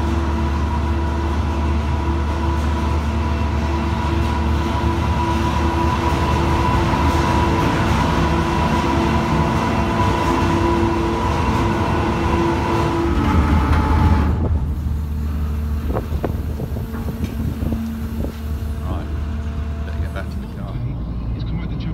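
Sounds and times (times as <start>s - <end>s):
vehicle running with whine: 0.0s - 21.9s.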